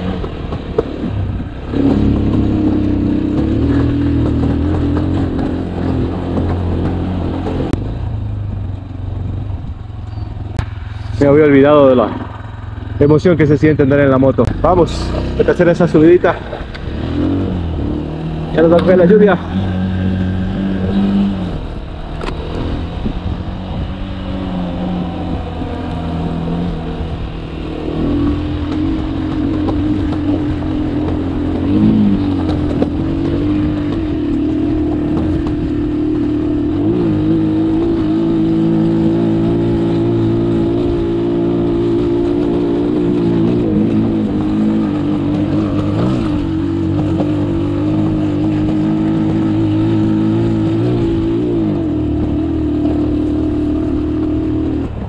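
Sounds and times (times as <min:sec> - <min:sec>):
low wind rumble: 0:00.0 - 0:55.0.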